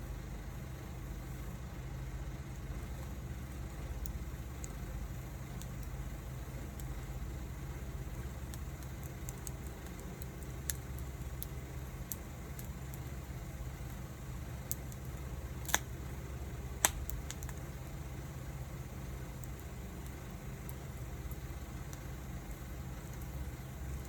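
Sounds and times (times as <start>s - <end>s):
steady low rumble: 0.0s - 24.0s
wood fire crackling: 0.0s - 24.0s.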